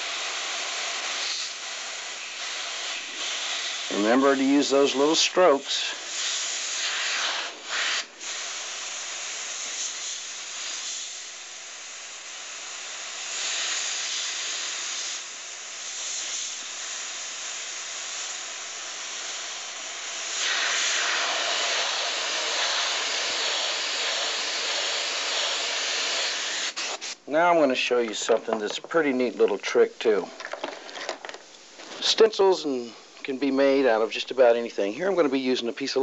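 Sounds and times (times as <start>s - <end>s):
airbrush hissing: 0.0s - 36.0s.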